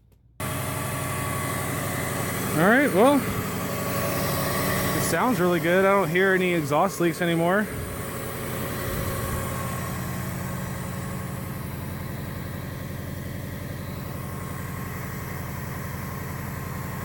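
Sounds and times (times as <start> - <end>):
car engine idling: 0.4 - 17.0.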